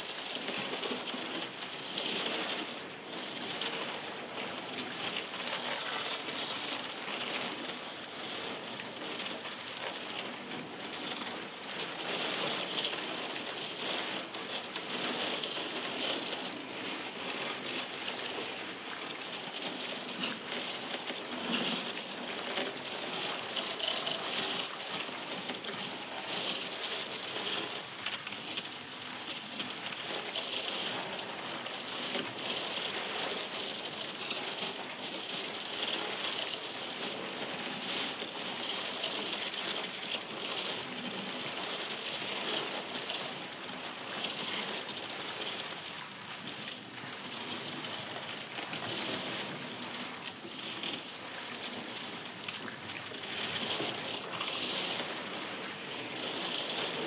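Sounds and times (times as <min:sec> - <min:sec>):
dense crackle of tiny clicks: 0:00.0 - 0:57.0.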